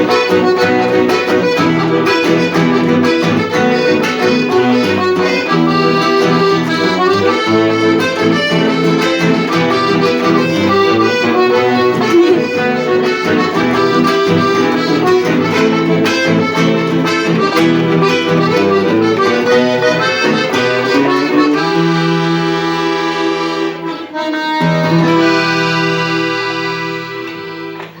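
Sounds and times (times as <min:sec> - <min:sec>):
accordion music: 0:00.0 - 0:28.0.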